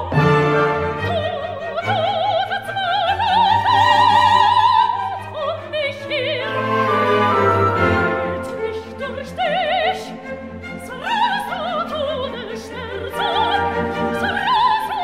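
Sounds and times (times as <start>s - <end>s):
operatic voice singing: 0.0s - 15.0s
orchestra playing: 0.0s - 15.0s.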